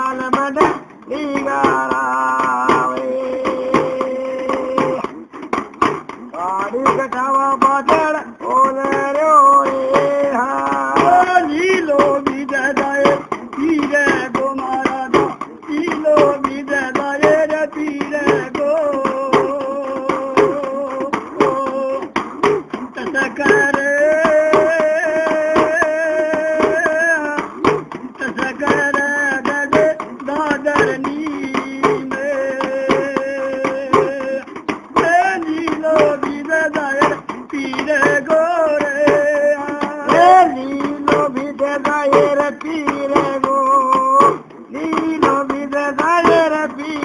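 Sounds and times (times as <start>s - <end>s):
folk song singing with instruments: 0.0s - 47.0s.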